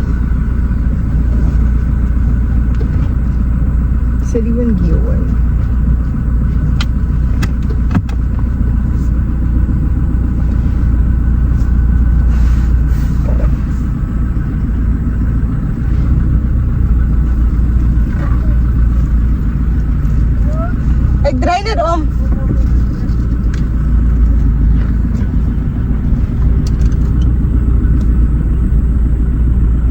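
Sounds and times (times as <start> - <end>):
car engine and tyres rumbling: 0.0 - 29.9.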